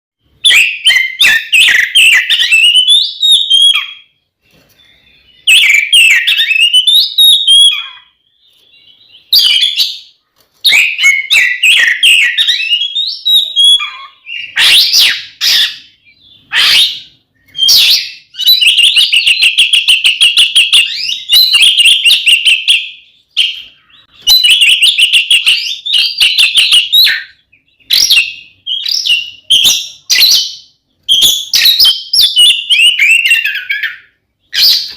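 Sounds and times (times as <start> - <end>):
bird singing loudly: 0.2 - 4.2, 4.8 - 34.9.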